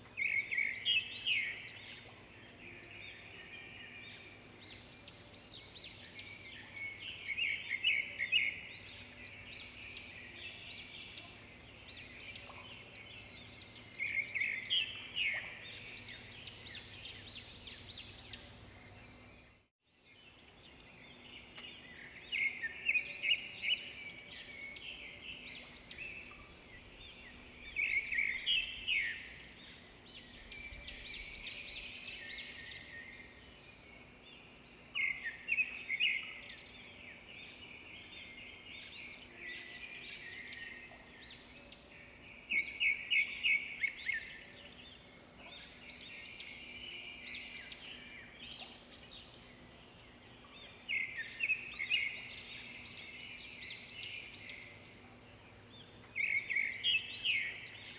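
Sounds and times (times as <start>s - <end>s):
small birds chirping and singing: 0.0s - 57.9s.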